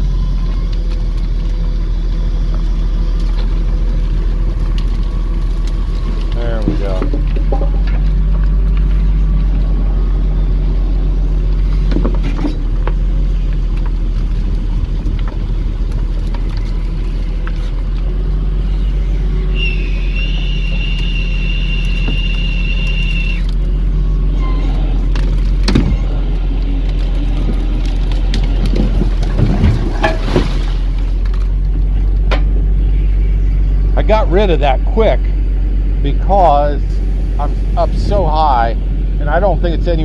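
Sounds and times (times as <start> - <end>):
high steady whine: 0.0 - 40.0
truck engine running: 0.0 - 40.0
hydraulic boom unloading brush: 0.4 - 32.6.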